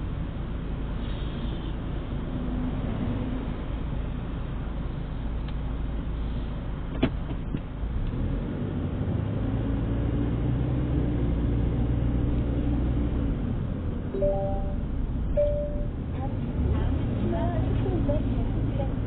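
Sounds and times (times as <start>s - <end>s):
car engine hum: 0.0s - 19.0s
road rumble: 0.0s - 19.0s.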